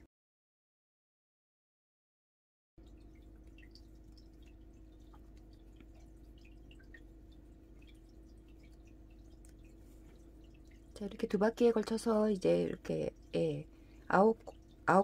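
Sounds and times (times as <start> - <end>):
faint steady hum: 2.8 - 15.0.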